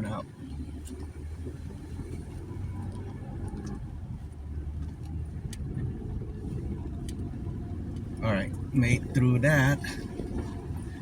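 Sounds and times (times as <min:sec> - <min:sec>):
pickup engine running low: 0:00.0 - 0:11.0.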